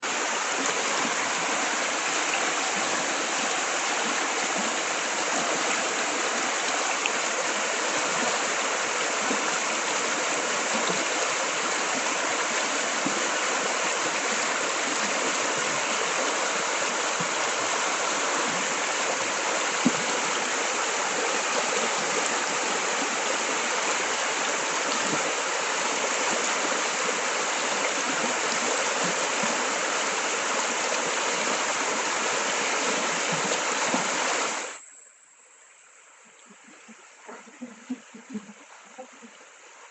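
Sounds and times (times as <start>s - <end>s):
river flowing over rocks: 0.0s - 34.8s.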